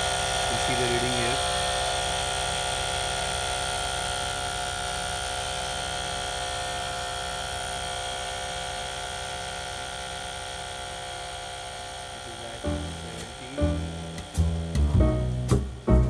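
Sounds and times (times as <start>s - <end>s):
electric tyre compressor whining: 0.0s - 16.0s.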